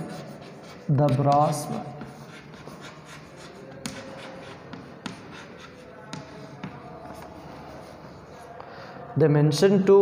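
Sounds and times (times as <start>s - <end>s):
chalk scratching on chalkboard: 0.0s - 8.6s
chalk tapping: 0.0s - 8.7s.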